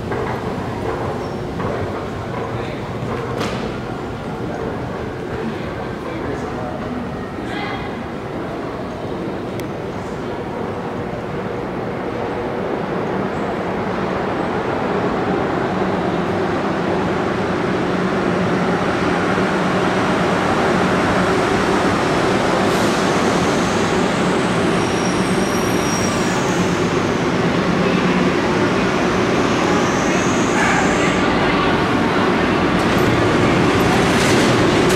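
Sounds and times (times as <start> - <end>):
train rumble and hum: 0.0 - 34.9.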